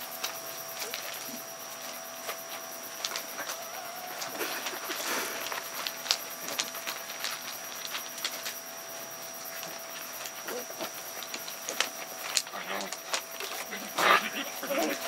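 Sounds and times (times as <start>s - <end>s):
paws clicking on gravel: 0.2s - 15.0s.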